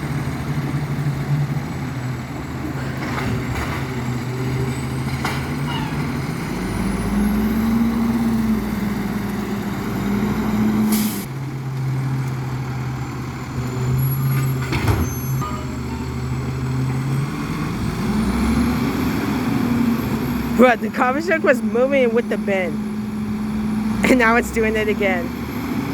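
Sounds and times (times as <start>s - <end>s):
garbage truck engine running: 0.0s - 25.9s.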